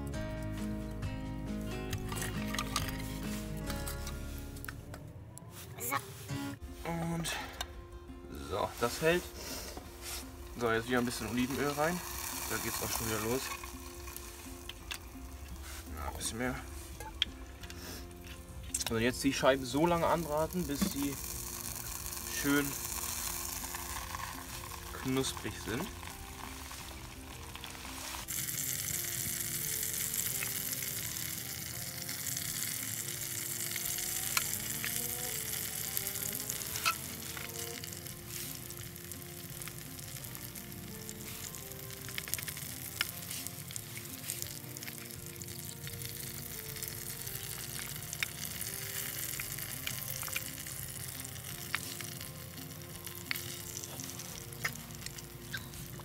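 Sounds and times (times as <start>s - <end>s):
bread frying in oil: 8.8s - 56.0s.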